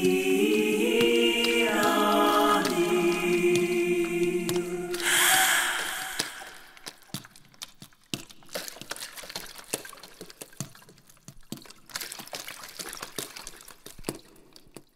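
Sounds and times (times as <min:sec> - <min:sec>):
water dripping: 0:00.0 - 0:14.9.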